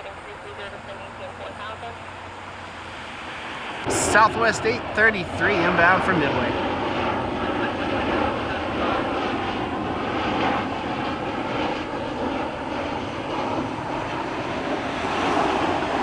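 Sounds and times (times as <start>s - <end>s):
airliner engine drone: 0.0s - 16.0s.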